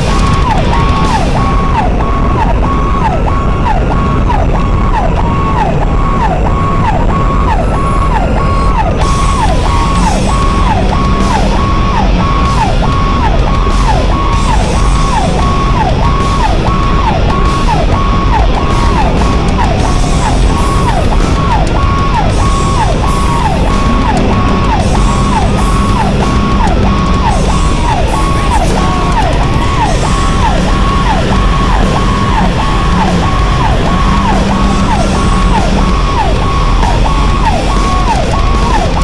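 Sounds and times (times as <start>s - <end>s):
ambulance siren: 0.0s - 39.0s
engine and road rumble: 0.0s - 39.0s.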